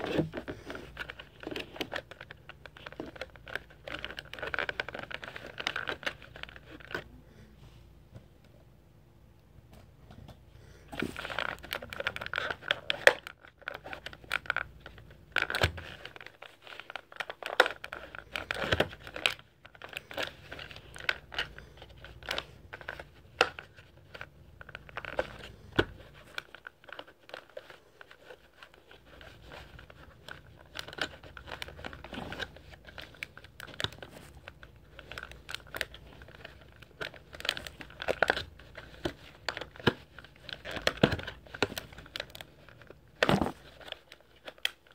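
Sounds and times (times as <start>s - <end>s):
plastic packaging crinkling: 0.0s - 7.0s, 11.0s - 44.9s.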